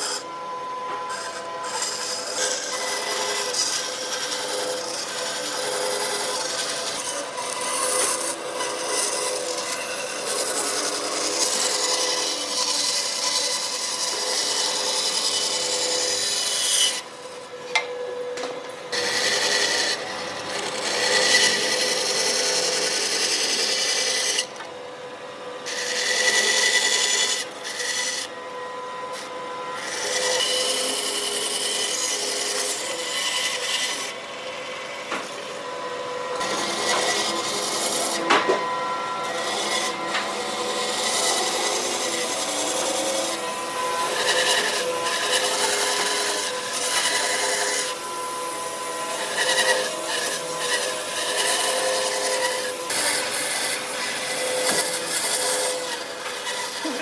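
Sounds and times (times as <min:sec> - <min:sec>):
abrasive tool scraping wood: 0:00.0 - 0:24.7, 0:25.7 - 0:57.0.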